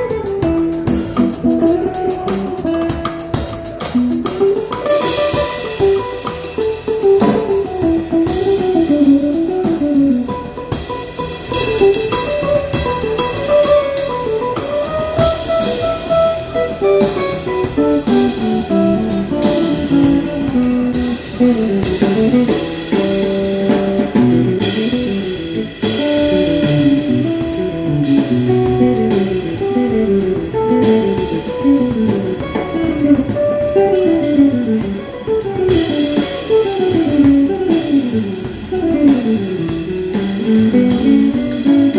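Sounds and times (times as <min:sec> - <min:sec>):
bass: 0:00.0 - 0:41.9
drum kit: 0:00.0 - 0:41.9
electric guitar solo: 0:00.0 - 0:41.9.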